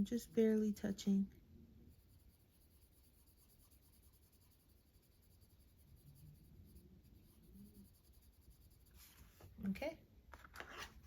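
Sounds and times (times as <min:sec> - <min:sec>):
pencil scratching on paper: 0:00.0 - 0:09.5.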